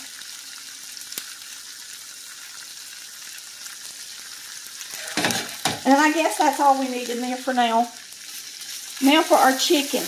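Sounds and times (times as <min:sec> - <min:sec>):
potatoes sizzling in a skillet: 0:00.0 - 0:10.0.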